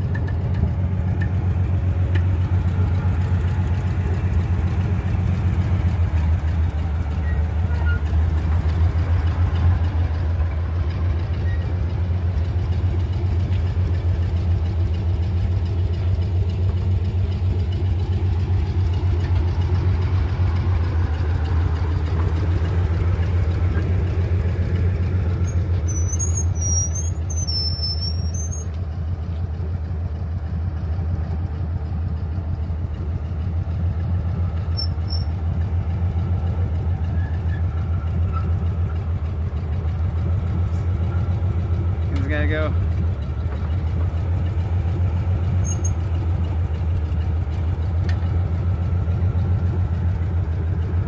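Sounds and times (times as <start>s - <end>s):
forklift engine humming: 0.0s - 51.0s.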